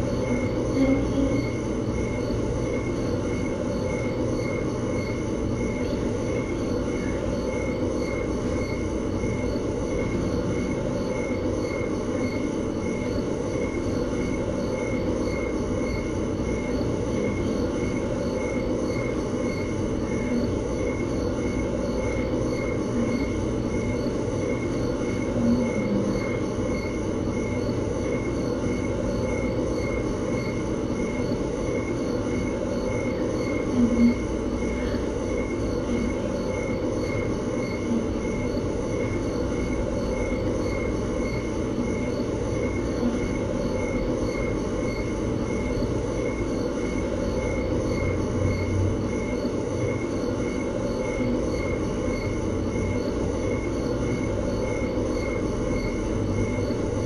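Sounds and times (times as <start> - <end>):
low rumbling background noise: 0.0 - 57.0.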